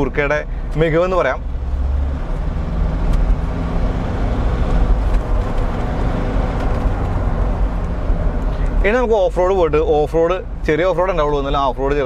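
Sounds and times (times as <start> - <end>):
road and tyre noise: 0.0 - 12.0.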